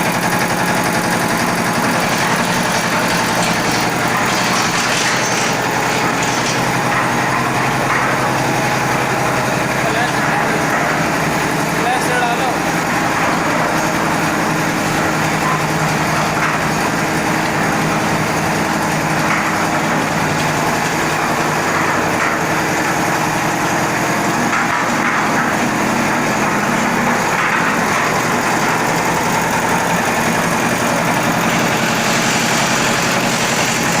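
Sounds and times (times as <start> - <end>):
concrete mixer engine running: 0.0 - 34.0.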